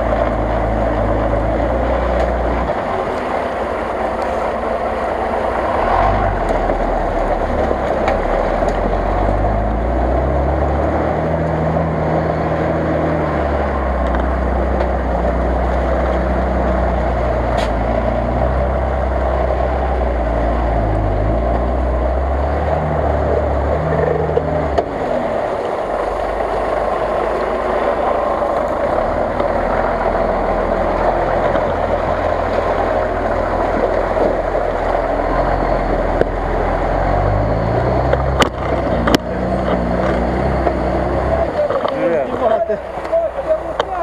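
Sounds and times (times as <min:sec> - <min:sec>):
engine working under load: 0:00.0 - 0:44.0
tyres in deep mud: 0:00.0 - 0:44.0.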